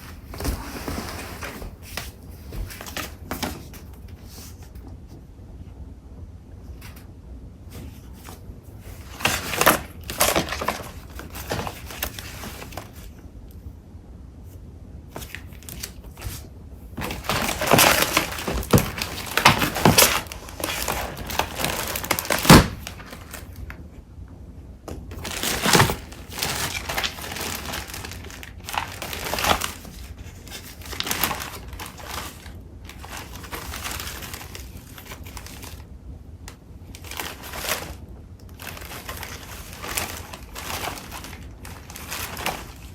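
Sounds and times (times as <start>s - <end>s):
paper rustling and crinkling: 0.0s - 5.2s, 7.7s - 13.2s, 15.1s - 23.7s, 25.1s - 35.9s, 36.5s - 42.9s.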